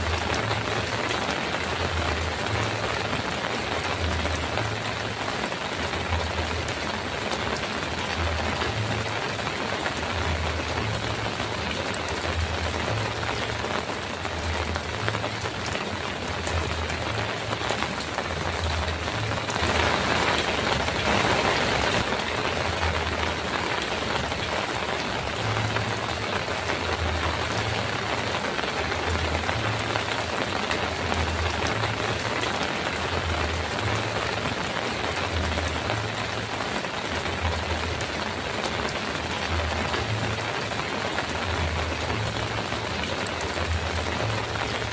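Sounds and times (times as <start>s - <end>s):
heavy rain on a metal roof: 0.0s - 44.9s.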